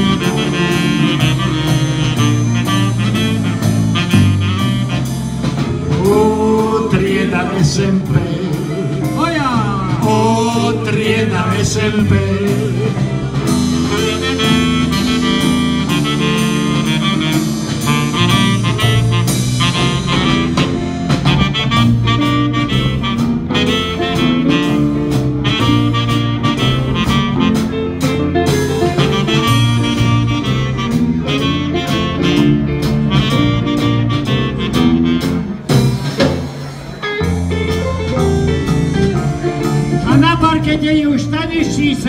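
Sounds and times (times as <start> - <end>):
saxophone: 0.0 - 40.2
drum kit steady beat: 0.0 - 42.0
electric keyboard: 0.0 - 42.0.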